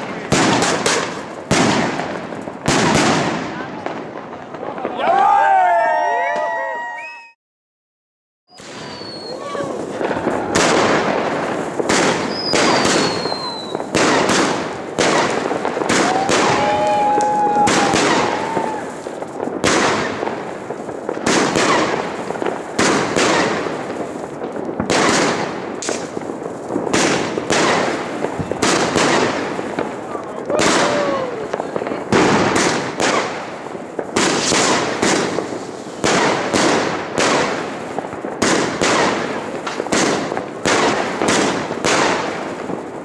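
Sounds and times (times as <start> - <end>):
firework bangs: 0.0 - 6.9, 8.5 - 43.0.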